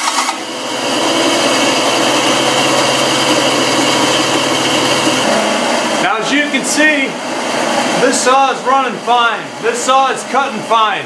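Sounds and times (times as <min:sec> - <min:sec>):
bandsaw motor humming: 0:00.0 - 0:10.2.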